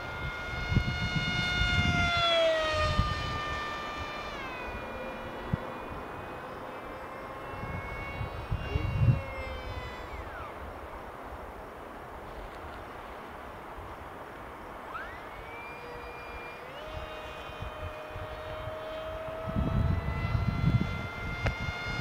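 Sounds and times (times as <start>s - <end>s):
model plane electric motor whining: 0.0s - 22.0s.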